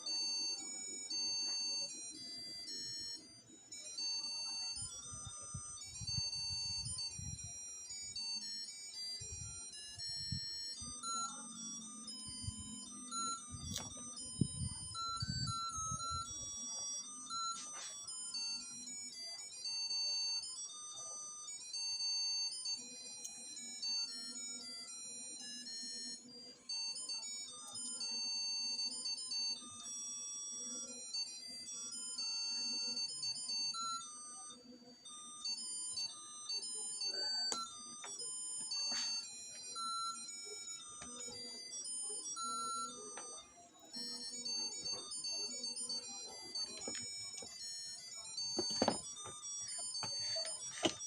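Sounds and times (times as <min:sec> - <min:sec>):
beeping electronic melody: 0:00.0 - 0:51.0.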